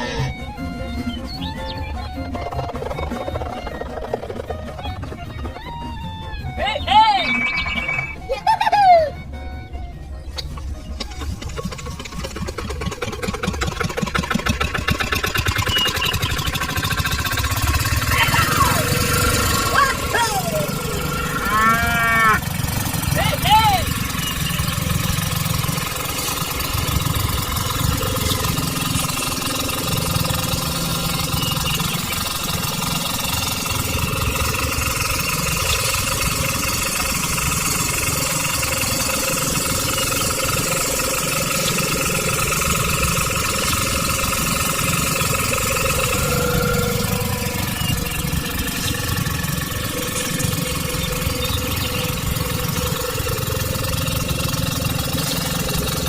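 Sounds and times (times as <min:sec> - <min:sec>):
small engine knocking: 0:00.0 - 0:08.3, 0:09.4 - 0:56.0.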